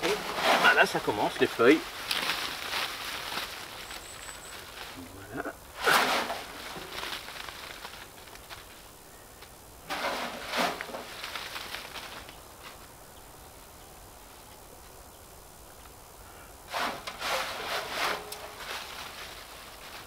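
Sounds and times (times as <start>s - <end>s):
dry leaves rustling and crackling: 0.0s - 15.0s, 16.7s - 20.0s.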